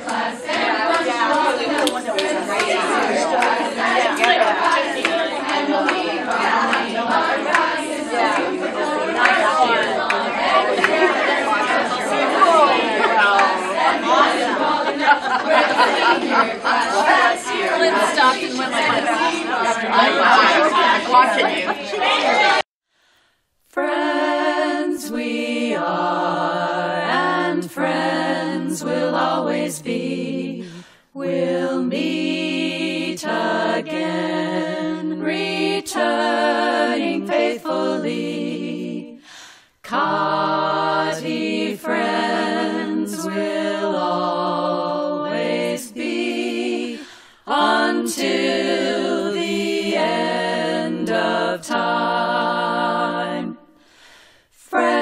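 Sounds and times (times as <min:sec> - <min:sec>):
group singing a cappella: 0:00.0 - 0:22.7, 0:23.7 - 0:55.0.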